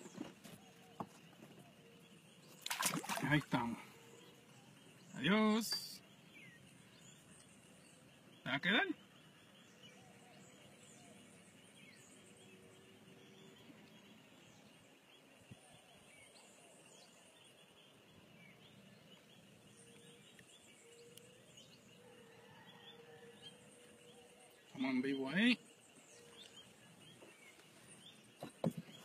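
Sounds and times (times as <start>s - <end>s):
distant bird chirps: 0.0s - 29.0s.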